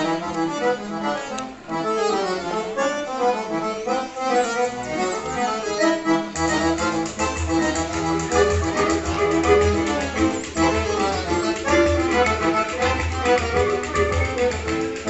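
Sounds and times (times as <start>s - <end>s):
accordion melody: 0.0s - 15.0s.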